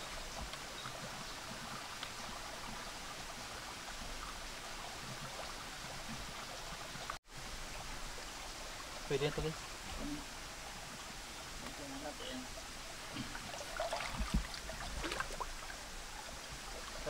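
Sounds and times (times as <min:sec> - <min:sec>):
creek flowing: 0:00.0 - 0:17.0.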